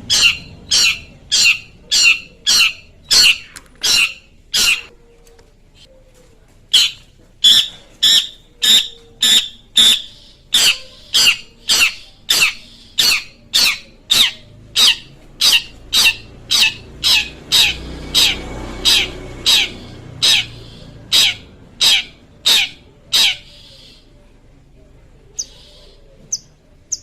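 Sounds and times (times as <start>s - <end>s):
shrike harsh scratchy calls: 0.0s - 4.9s, 6.8s - 24.0s.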